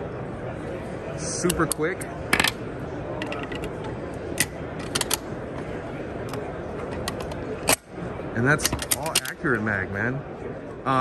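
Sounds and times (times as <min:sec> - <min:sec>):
background hubbub: 0:00.0 - 0:11.0.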